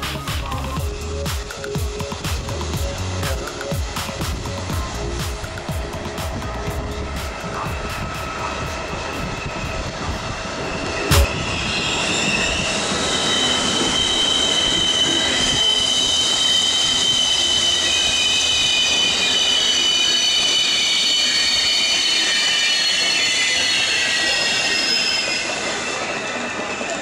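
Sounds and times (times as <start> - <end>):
rail rumble: 0.0 - 27.0
train brakes squealing: 0.0 - 27.0.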